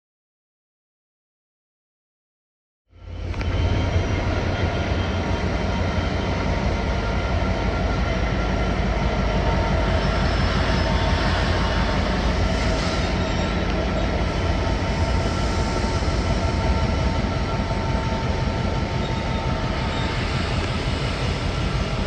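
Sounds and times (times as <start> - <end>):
train low rumble: 2.9 - 22.0.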